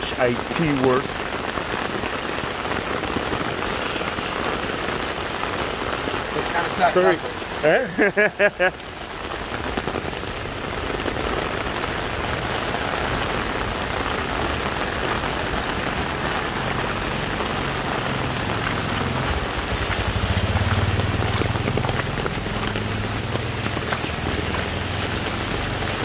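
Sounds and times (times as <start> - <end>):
heavy rain pouring on street: 0.0 - 26.0
rain pattering on umbrella: 0.0 - 26.0.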